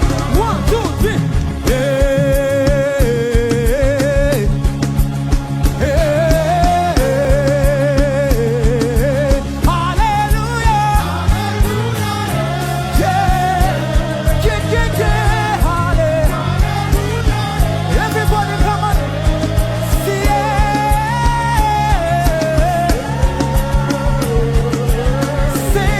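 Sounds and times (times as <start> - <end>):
bass: 0.0 - 25.9
steady drum beat: 0.0 - 25.9
sung melody: 0.0 - 25.9.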